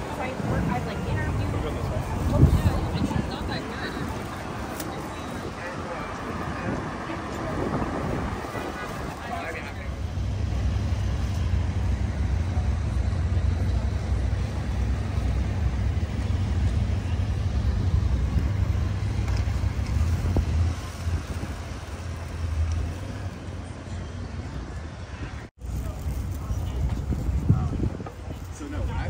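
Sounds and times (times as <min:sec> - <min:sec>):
steady low rumble: 0:00.0 - 0:23.8
traffic noise: 0:00.0 - 0:29.0.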